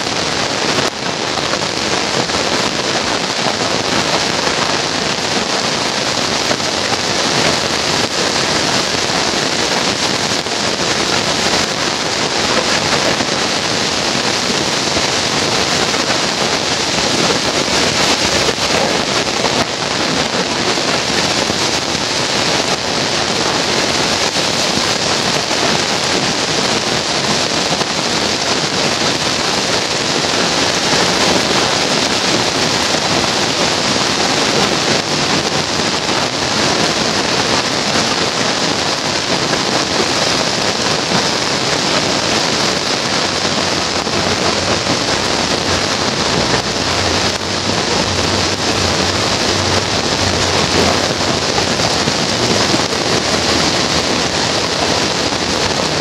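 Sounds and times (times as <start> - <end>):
heavy rain on street and roofs: 0.0 - 56.0.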